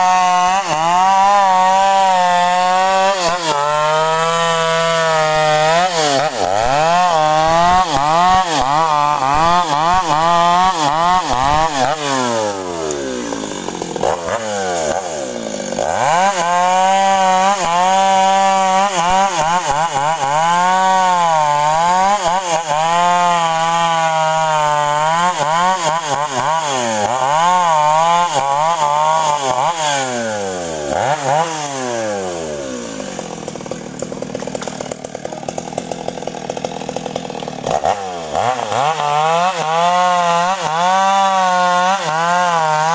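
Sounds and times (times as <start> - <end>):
chainsaw cutting logs: 0.0 - 42.9.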